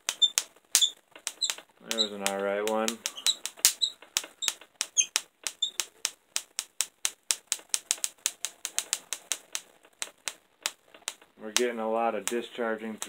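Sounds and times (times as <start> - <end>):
electric sparks cracking: 0.0 - 13.0.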